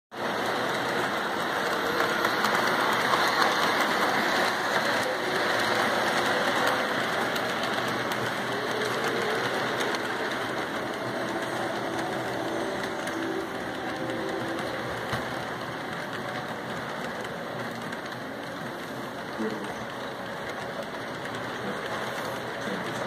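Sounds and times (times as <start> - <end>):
model train wheels rattling on rails: 0.1 - 23.0.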